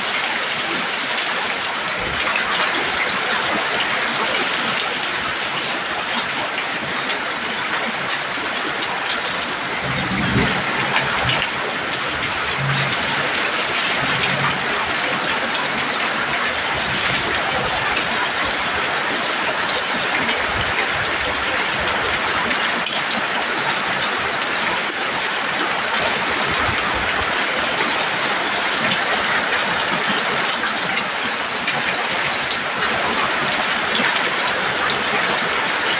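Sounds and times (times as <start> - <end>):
heavy rain on a roof: 0.0 - 35.9.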